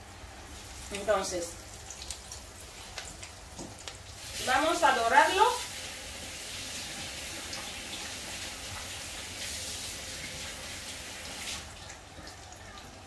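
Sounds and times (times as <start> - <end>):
fish sizzling in frying: 0.4 - 11.8.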